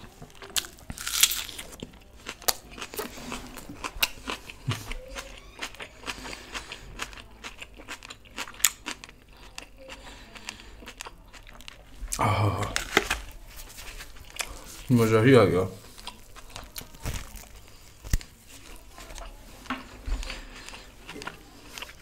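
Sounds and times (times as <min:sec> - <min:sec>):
wet chewing: 0:00.0 - 0:14.9, 0:15.8 - 0:22.0
pickled onion crunching: 0:00.0 - 0:15.1, 0:15.8 - 0:22.0.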